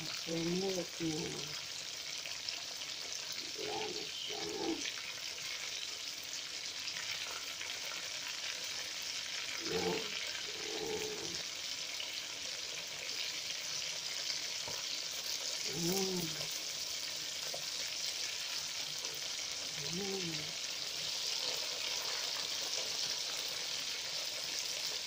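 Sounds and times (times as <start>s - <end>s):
chicken frying in oil: 0.0s - 25.0s.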